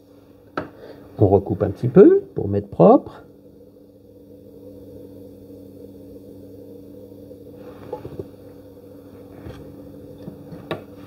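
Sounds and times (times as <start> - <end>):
potter's wheel motor humming: 0.0 - 11.0.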